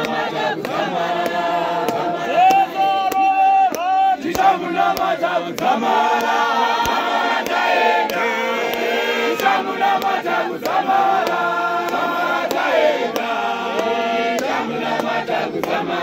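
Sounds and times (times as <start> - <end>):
congregation singing unaccompanied: 0.0 - 16.0.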